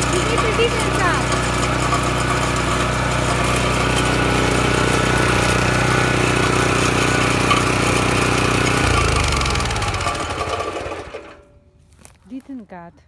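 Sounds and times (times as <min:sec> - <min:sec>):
wood chipper engine running: 0:00.0 - 0:12.2.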